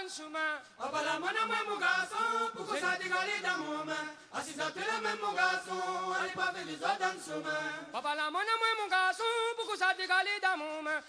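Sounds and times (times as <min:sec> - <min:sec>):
a cappella chant-like singing: 0:00.0 - 0:11.0.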